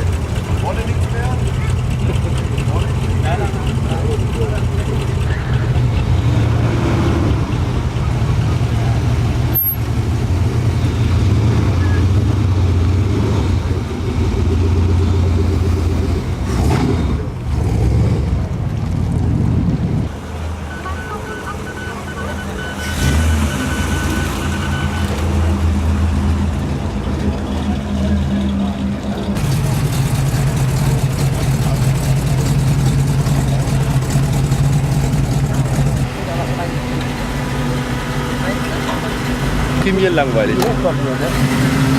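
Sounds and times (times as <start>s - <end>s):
car engine rumbling: 0.0s - 41.9s.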